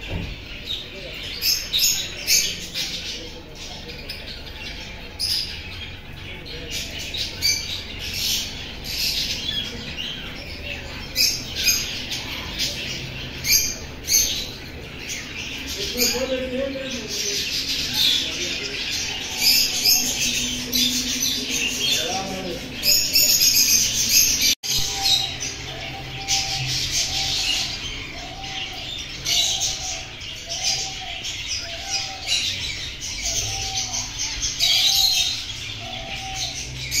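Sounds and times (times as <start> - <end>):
chicks chirping in scratchy peeps: 0.0 - 37.0.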